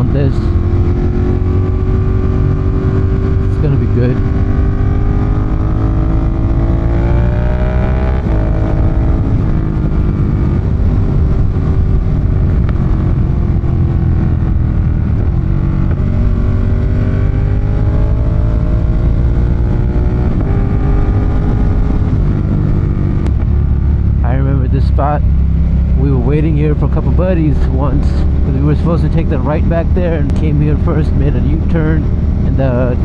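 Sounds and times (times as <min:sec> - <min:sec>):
motorcycle engine revving: 0:00.0 - 0:33.0
wind rumble on microphone: 0:00.0 - 0:33.0.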